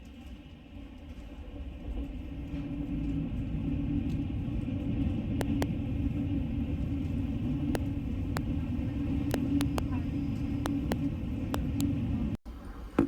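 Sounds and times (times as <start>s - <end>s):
low vehicle rumble: 0.5s - 12.9s.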